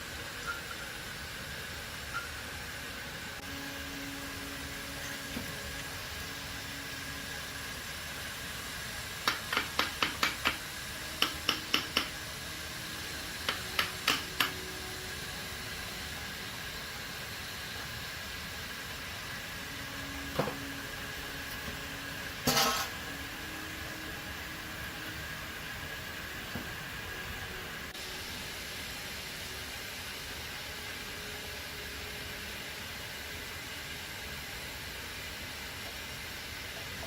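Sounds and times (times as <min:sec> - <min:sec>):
steady workshop hiss: 0:00.0 - 0:37.0.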